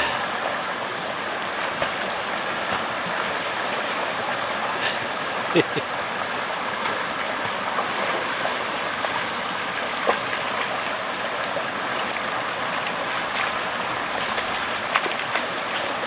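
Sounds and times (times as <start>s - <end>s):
stream water running: 0.0s - 16.0s.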